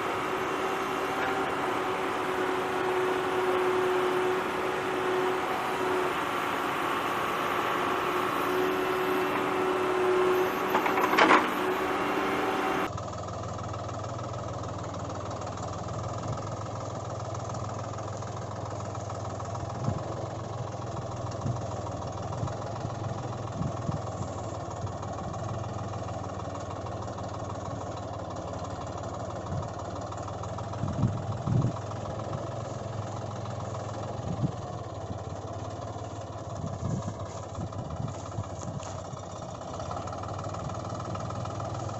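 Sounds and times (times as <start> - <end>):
engine humming: 0.0 - 41.9.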